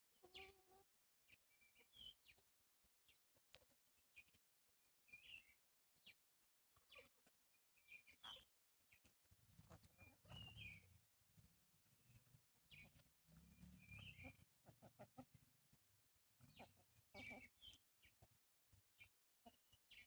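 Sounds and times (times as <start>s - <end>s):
faint birds chirping: 0.1s - 20.0s.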